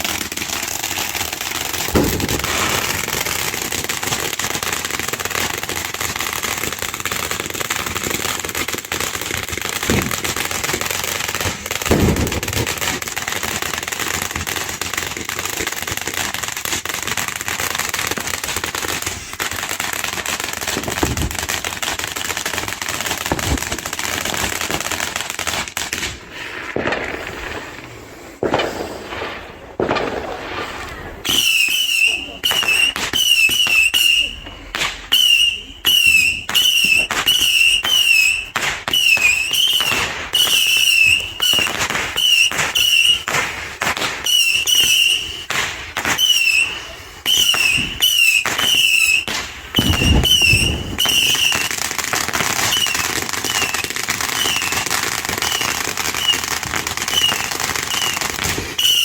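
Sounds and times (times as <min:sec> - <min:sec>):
firework bangs: 0:00.0 - 0:59.0
firework fountains crackling hiss: 0:00.0 - 0:59.0.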